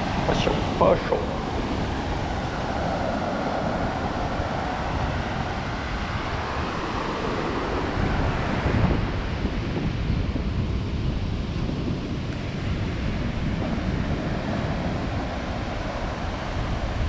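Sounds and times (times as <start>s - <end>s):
surf washing up a beach: 0.0s - 17.0s
wind on microphone: 0.0s - 17.0s.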